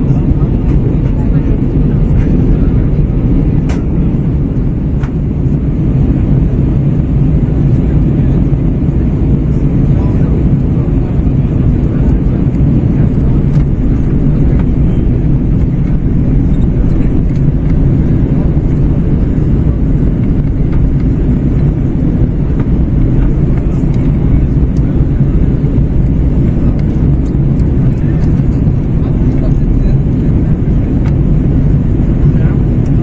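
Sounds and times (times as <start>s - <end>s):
airflow rushing over fuselage: 0.0s - 33.0s
jet engines running: 0.0s - 33.0s.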